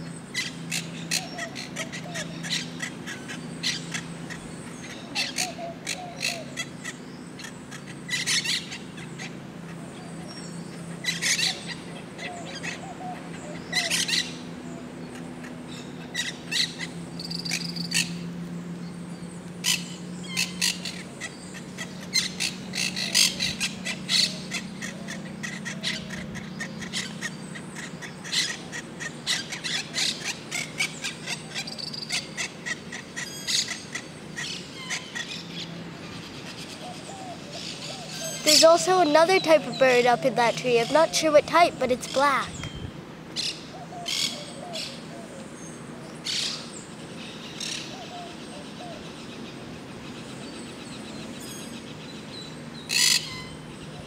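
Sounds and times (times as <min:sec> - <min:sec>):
birds chirping and squawking: 0:00.0 - 0:54.0.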